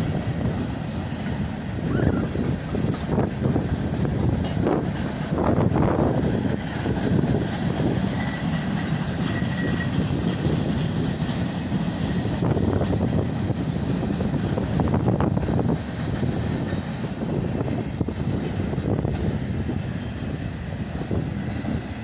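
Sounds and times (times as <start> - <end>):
freight train cars rolling past: 0.0 - 22.0.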